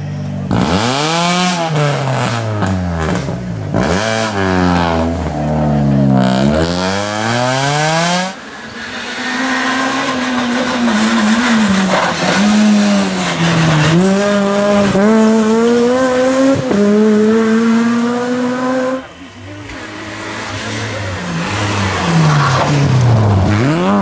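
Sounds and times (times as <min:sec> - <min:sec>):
rally car engine at high revs: 0:00.0 - 0:24.0.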